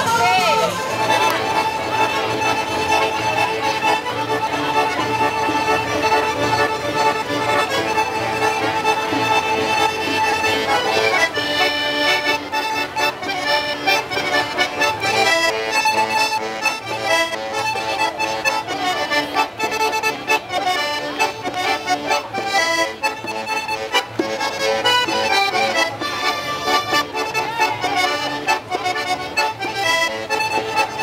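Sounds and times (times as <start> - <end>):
button accordions playing folk tune: 0.0 - 31.0.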